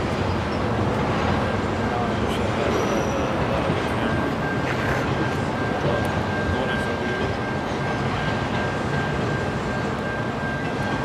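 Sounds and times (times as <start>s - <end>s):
freight cars rumbling and rattling: 0.0s - 11.0s.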